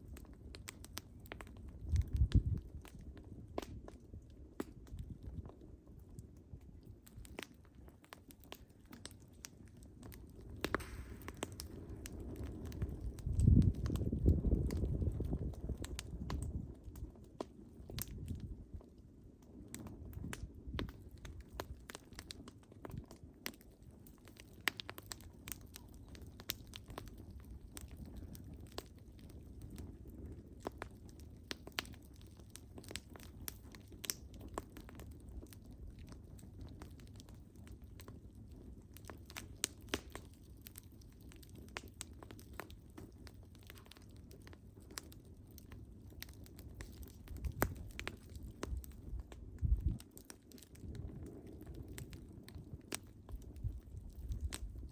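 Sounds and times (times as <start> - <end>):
low rumble of flame: 0.0 - 54.9
wood fire crackling and popping: 0.0 - 54.9.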